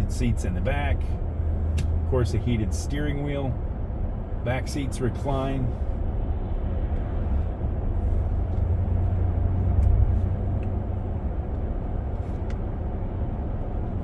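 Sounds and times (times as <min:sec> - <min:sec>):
road and engine rumble in cabin: 0:00.0 - 0:14.0.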